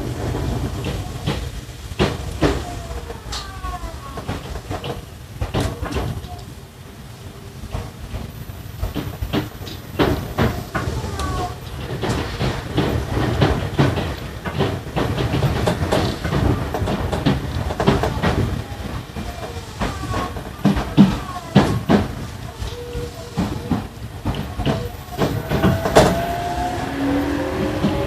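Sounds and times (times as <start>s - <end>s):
wheels clicking over rail joints: 0.0s - 6.9s, 7.5s - 28.0s
train rumble: 0.0s - 28.0s.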